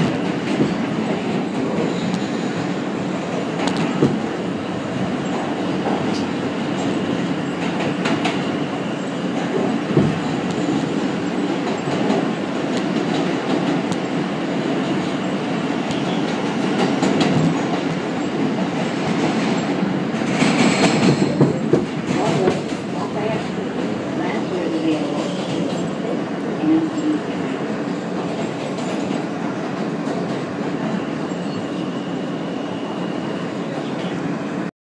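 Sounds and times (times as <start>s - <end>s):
rail joint clicks: 0.0s - 27.4s, 28.1s - 31.7s
subway train rumble: 0.0s - 34.7s.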